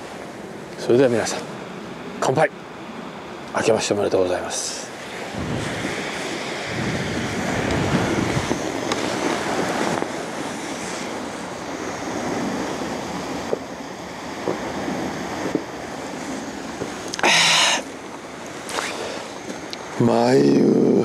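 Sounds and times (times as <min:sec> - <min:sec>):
sea surf on sandy beach: 0:00.0 - 0:21.0
wind rumbling on microphone: 0:00.0 - 0:21.0.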